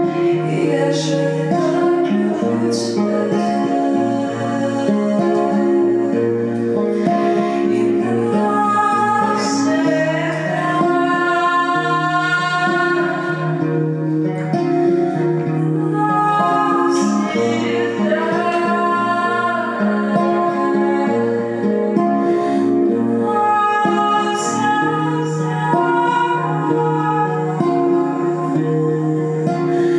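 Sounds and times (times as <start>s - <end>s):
acoustic guitar: 0.0s - 29.9s
woman singing slow song: 0.0s - 29.9s.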